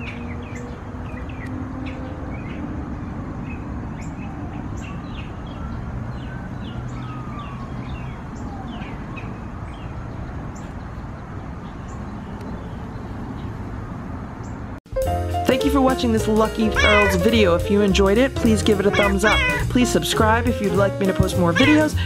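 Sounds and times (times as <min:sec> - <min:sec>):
songbirds chirping: 0:00.0 - 0:14.8, 0:15.6 - 0:22.0.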